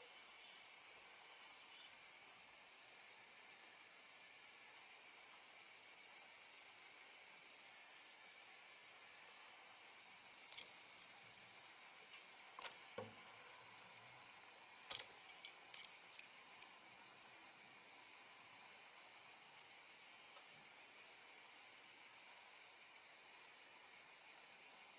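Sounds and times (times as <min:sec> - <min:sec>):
crickets chirping: 0:00.0 - 0:24.9.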